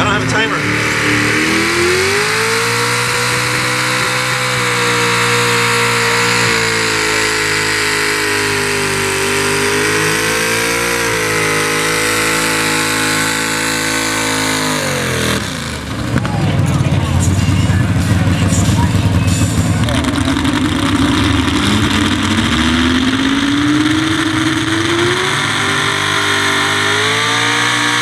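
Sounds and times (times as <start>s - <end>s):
pickup truck engine revving high: 0.0s - 28.0s.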